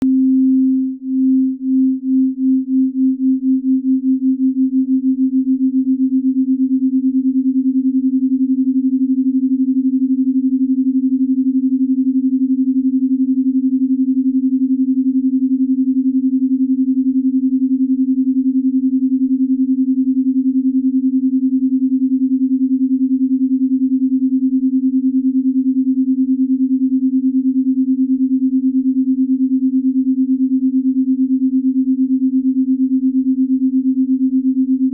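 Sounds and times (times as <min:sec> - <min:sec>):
pulsing binaural sine tone: 0:00.0 - 0:34.9.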